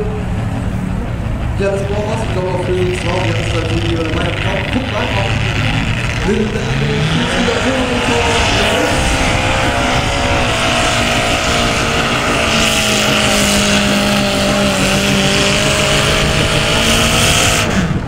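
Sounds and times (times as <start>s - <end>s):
tractor engine under heavy load: 0.0s - 18.0s.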